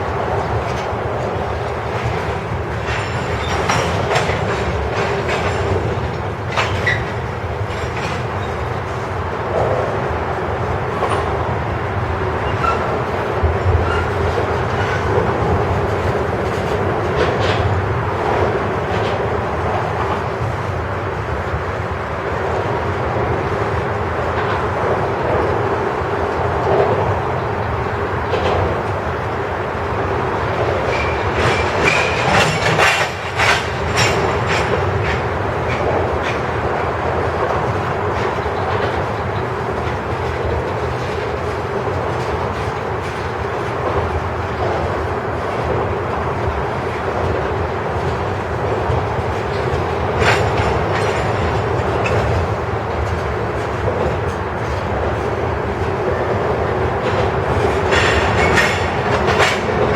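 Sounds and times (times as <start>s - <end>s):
train wheels rumbling on rails: 0.0s - 59.9s
wheels clicking over rail joints: 0.1s - 59.9s.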